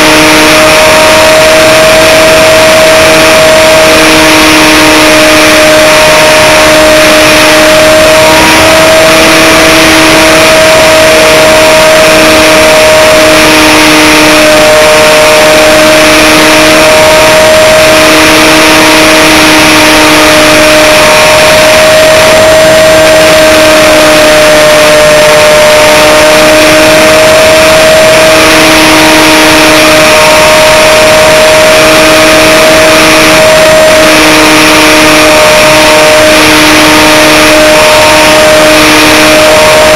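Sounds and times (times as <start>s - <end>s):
electric motor and propeller whining: 0.0s - 39.9s
low hum: 0.0s - 39.9s.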